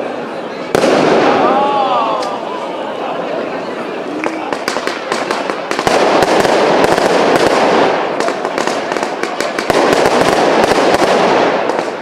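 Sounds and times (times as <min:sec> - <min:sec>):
fireworks crackling and banging: 0:00.0 - 0:02.4, 0:04.1 - 0:12.0.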